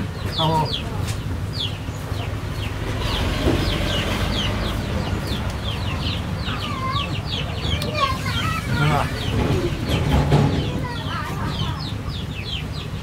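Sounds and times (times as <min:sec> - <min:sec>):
chickens peeping: 0:00.0 - 0:13.0.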